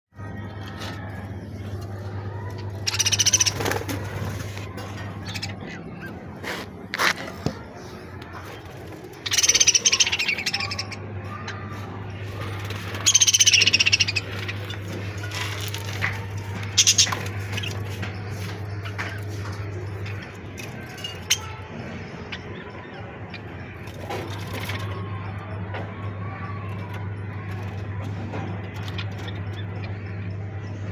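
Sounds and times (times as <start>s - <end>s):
budgies chirping: 0.6s - 30.9s.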